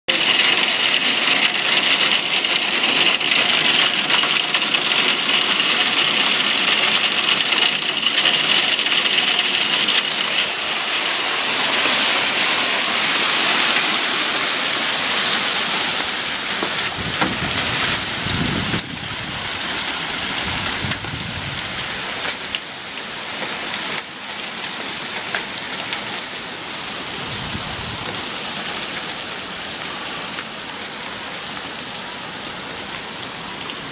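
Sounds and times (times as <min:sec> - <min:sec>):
hailstones ticking on surfaces: 0:00.1 - 0:33.9
hard rain pelting down: 0:00.1 - 0:33.9.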